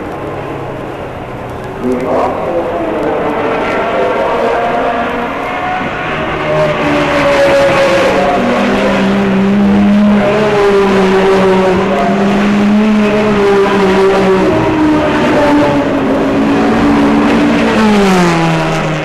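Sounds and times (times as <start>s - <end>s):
race cars passing at speed: 0.0s - 19.0s.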